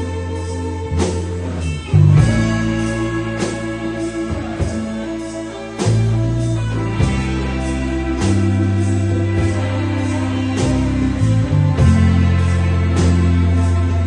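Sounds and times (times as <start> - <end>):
rock band music: 0.0 - 14.0.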